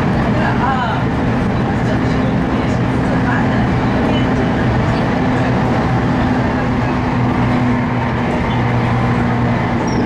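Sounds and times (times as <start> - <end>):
train traction motors humming: 0.0 - 10.0.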